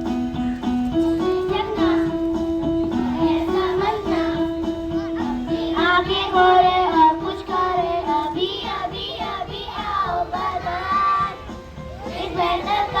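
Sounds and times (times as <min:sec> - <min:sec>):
young children singing: 0:01.0 - 0:13.0.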